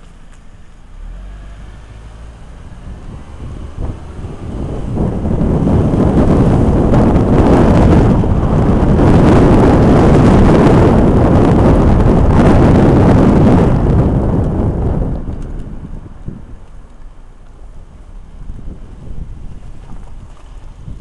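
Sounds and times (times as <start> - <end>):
road noise: 0.0 - 21.0
wind buffeting microphone: 1.6 - 21.0.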